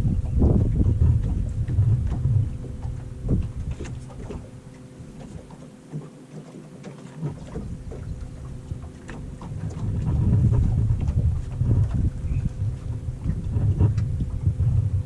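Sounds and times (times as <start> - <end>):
wind buffeting the microphone: 0.0 - 5.6, 7.2 - 15.0
water and gear knocking on hull: 0.0 - 15.0.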